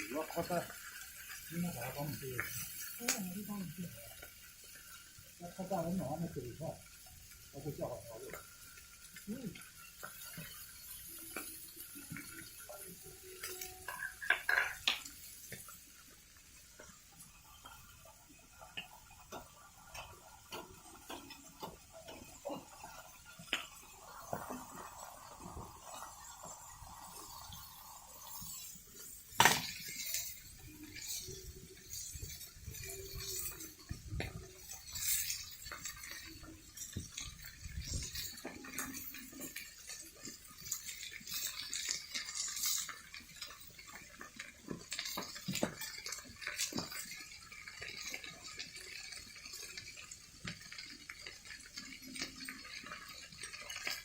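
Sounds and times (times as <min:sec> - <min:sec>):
metal cookware clinking: 0:07.3 - 0:54.0.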